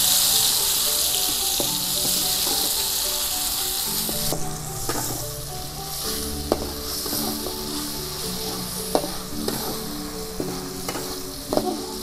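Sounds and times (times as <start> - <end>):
food sizzling in a wok: 0.0 - 12.0
spatula scraping a wok: 0.1 - 12.0.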